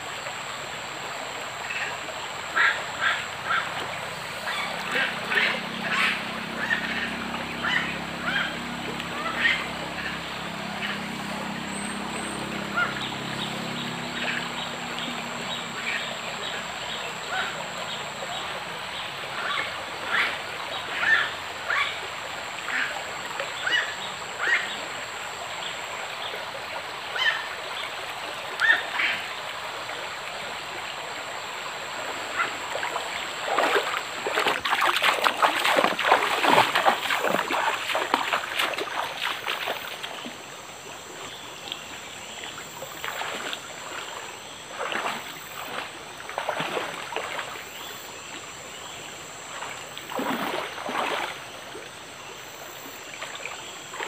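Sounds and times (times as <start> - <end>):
running water: 0.0 - 54.0
water splashing in a stream: 0.0 - 54.0.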